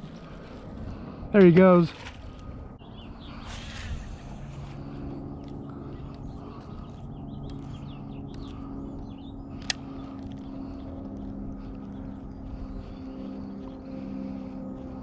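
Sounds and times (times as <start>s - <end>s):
birds chirping: 0.0s - 15.0s
low engine drone: 0.0s - 15.0s.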